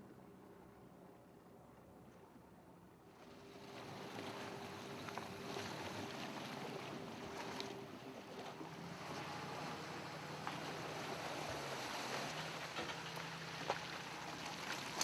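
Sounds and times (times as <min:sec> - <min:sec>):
faint boat engine running: 0:00.0 - 0:15.0
wind and water wash: 0:00.1 - 0:15.0.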